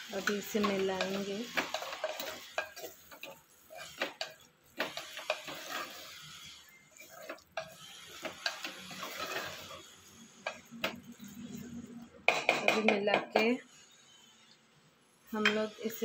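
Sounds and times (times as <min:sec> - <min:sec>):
wooden spoon scraping clay pot: 0:00.0 - 0:13.6
food sizzling: 0:00.0 - 0:16.0.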